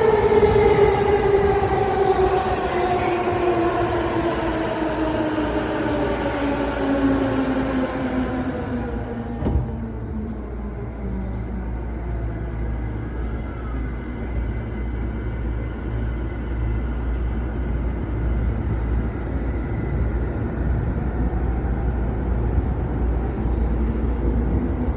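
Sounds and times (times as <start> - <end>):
electric train rumbling: 0.0 - 24.9.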